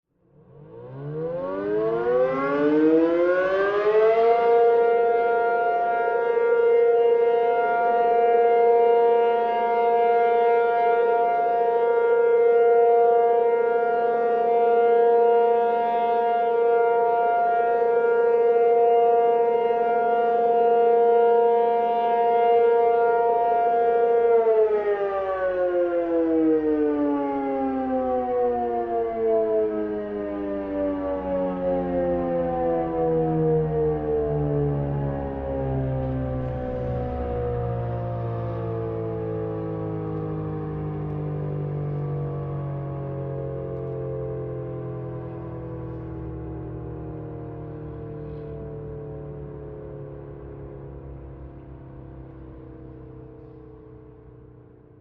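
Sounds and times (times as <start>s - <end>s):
warning siren wailing: 0.2s - 55.0s.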